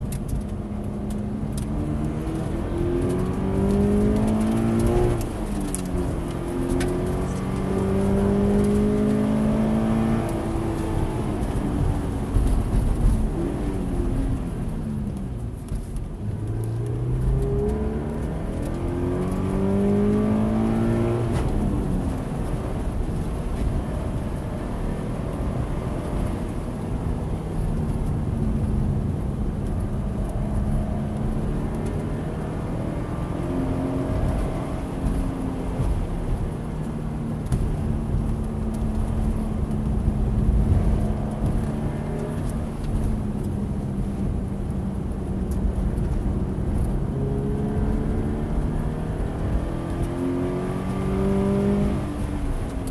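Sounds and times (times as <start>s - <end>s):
car engine revving: 0.0s - 52.9s
road and tyre noise: 0.0s - 52.9s.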